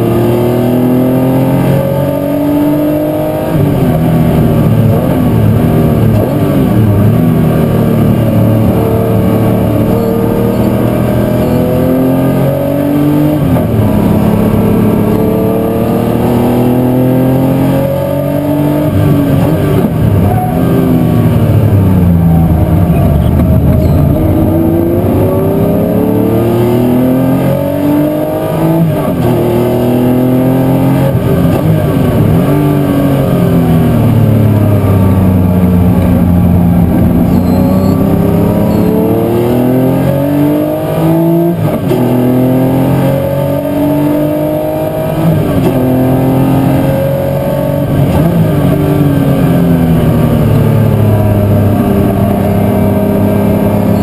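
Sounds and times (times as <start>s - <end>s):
race car engine accelerating: 0.0s - 54.0s.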